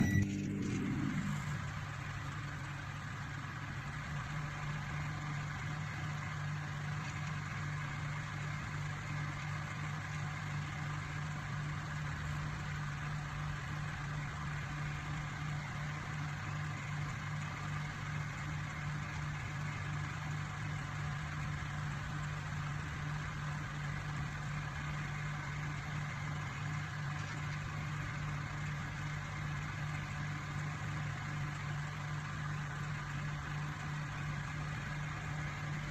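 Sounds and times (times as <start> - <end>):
microwave oven humming: 0.0 - 35.9.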